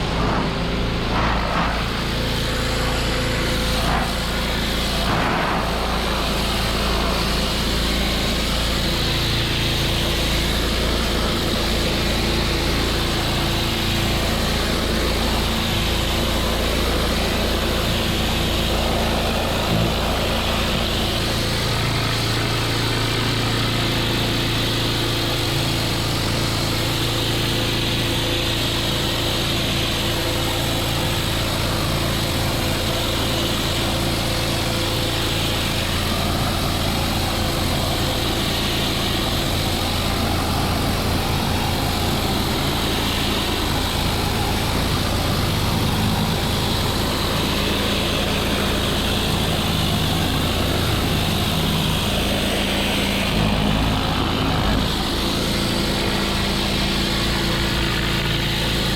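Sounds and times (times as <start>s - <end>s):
high-pressure water spray hiss: 0.0s - 58.9s
pressure washer engine drone: 0.0s - 58.9s.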